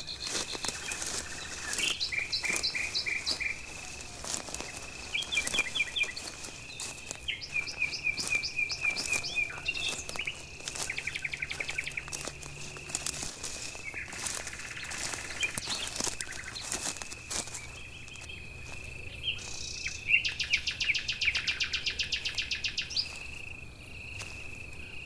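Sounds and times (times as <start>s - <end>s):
insect high-pitched trill: 0.0s - 25.0s
insect quick chirps: 0.0s - 25.0s.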